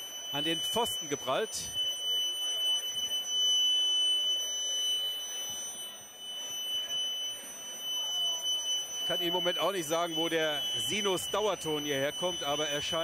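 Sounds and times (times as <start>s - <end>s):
high-pitched sine tone: 0.0s - 13.0s.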